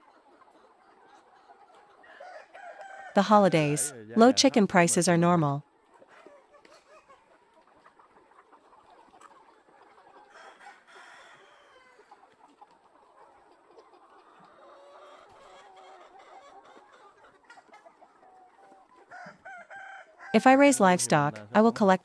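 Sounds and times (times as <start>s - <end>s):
drawn-out chicken call: 0.0s - 21.4s
chickens clucking: 0.0s - 22.0s.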